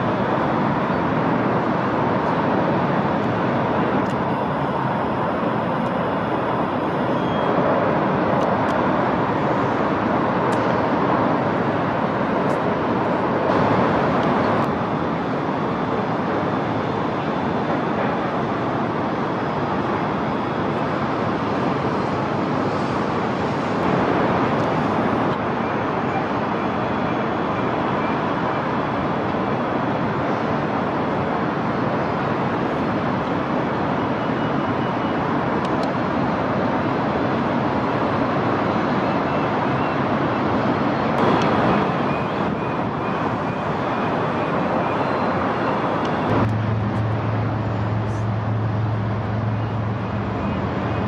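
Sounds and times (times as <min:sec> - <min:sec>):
city traffic noise: 0:00.0 - 0:51.0.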